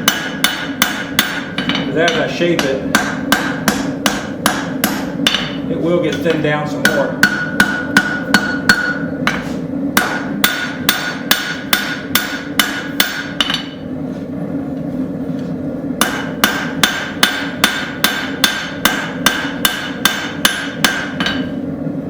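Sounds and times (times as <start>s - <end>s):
hammer ringing on hot steel: 0.0s - 9.4s, 10.0s - 13.8s, 16.0s - 21.6s
steady low hum: 0.0s - 22.0s.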